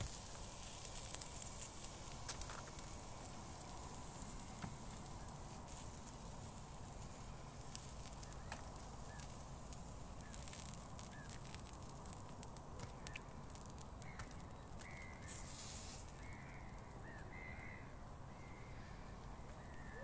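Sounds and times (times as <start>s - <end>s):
faint clicks and crackles: 0.0s - 17.9s
low wind rumble: 0.0s - 20.0s
faint chirps: 2.4s - 20.0s.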